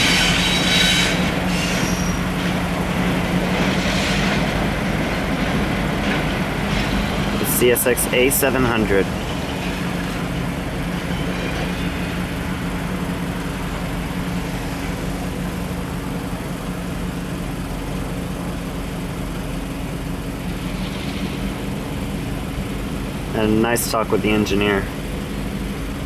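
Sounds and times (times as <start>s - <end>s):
diesel locomotives droning: 0.0s - 26.0s.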